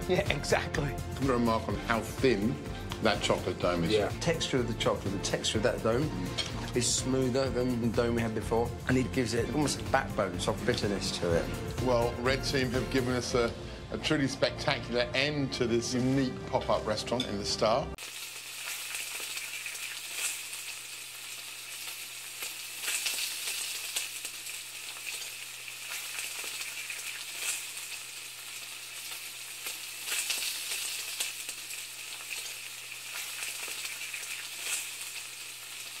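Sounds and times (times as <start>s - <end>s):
sizzling hiss with crackles: 0.0s - 13.8s, 18.0s - 36.0s.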